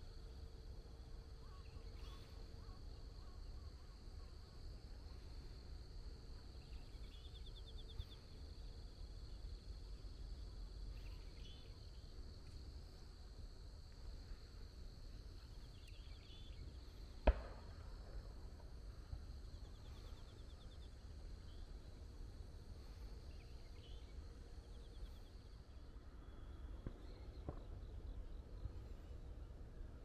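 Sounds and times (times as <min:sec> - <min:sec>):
rapid insect chirps: 0:00.0 - 0:29.8
insects droning: 0:00.0 - 0:30.0.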